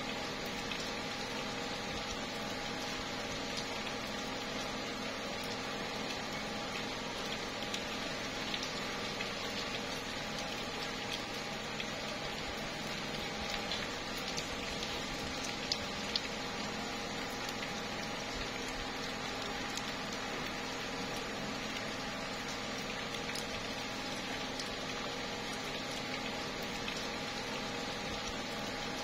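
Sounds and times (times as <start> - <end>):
rain falling on leaves: 0.0 - 29.0
water dripping: 0.0 - 29.0.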